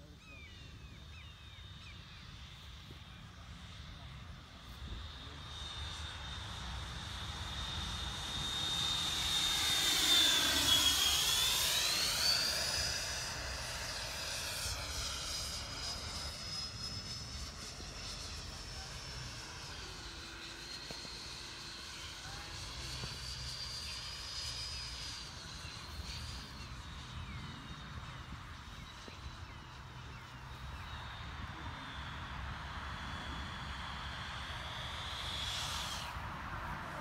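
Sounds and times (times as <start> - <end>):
model jet high whine: 0.0 - 37.0.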